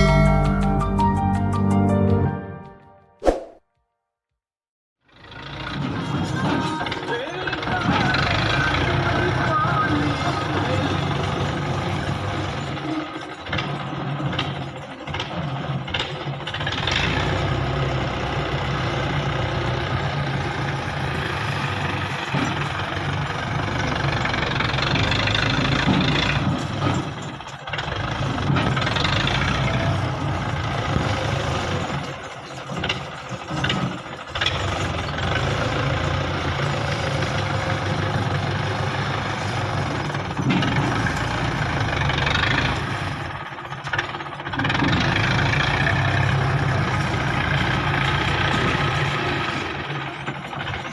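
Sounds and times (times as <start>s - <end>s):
tractor diesel engine running: 0.0s - 2.4s, 5.0s - 50.9s.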